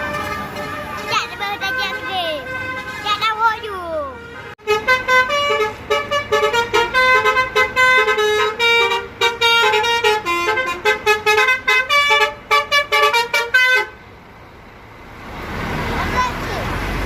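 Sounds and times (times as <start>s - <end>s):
bus multi-tone horn tune: 0.0s - 14.2s.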